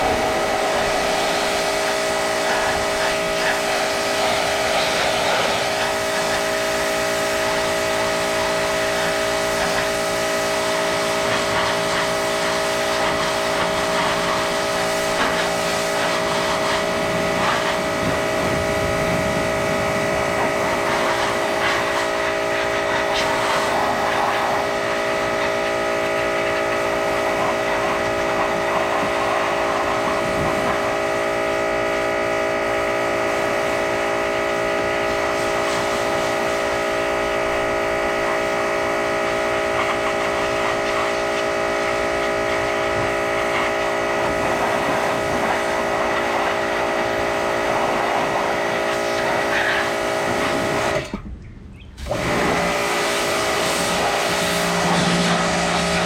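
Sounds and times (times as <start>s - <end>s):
hiss: 0.0s - 31.0s, 35.1s - 36.9s, 39.2s - 51.0s, 52.3s - 56.0s.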